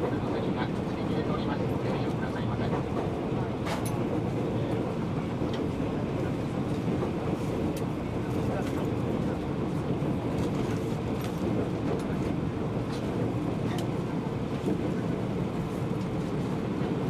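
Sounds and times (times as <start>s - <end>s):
train rumbling on a bridge: 0.0s - 17.0s.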